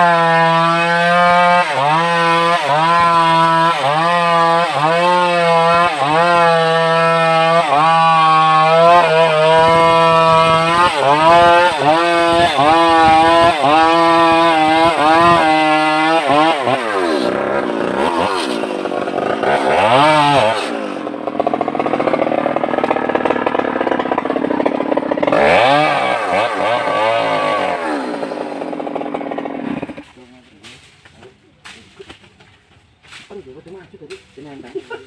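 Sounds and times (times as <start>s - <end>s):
chainsaw revving and idling: 0.0s - 31.8s.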